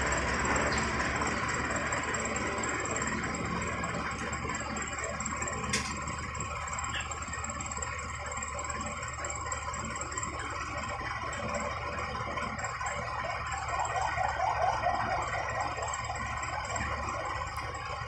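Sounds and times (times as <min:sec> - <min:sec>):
machine hum with high whine: 0:00.0 - 0:18.0.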